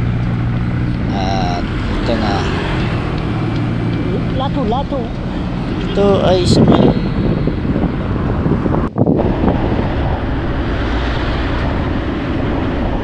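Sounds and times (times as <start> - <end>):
road noise: 0.0 - 13.0
wind rushing over microphone: 0.0 - 13.0.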